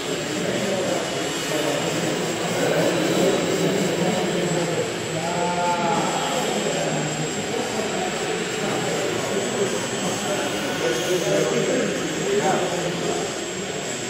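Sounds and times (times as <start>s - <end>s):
model plane propellers buzzing: 0.0s - 14.0s.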